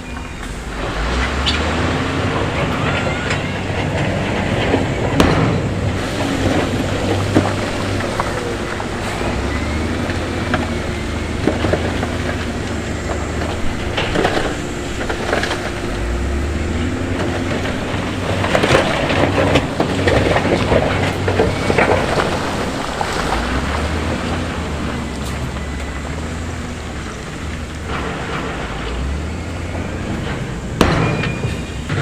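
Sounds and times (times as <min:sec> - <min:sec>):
diesel machinery running: 0:00.0 - 0:32.0
loose stone crunching and clattering: 0:03.7 - 0:32.0.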